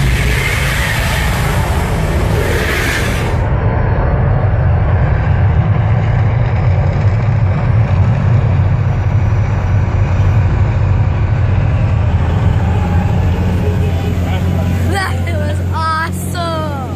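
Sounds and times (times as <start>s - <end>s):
deep steady rumbling: 0.0s - 16.9s.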